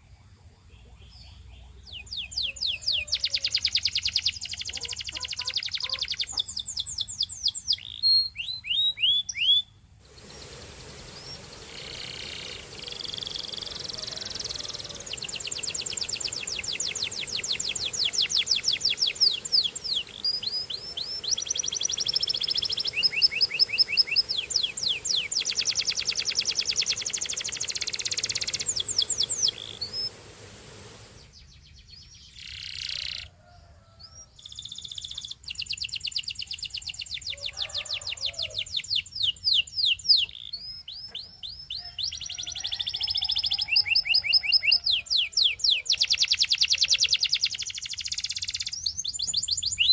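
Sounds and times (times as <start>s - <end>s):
canary singing trills: 0.0s - 30.2s, 31.2s - 49.9s.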